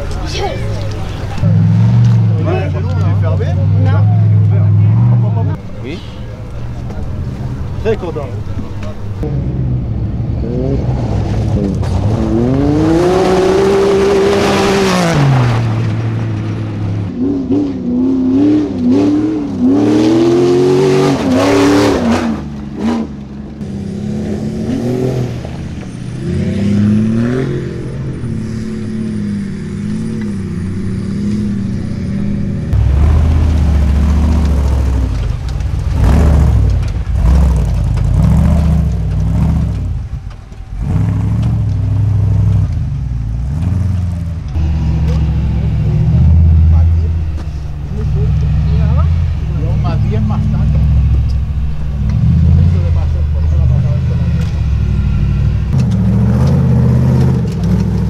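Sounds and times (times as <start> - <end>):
deep heavy engine rumble: 0.0 - 58.0
race car engines revving: 0.0 - 58.0.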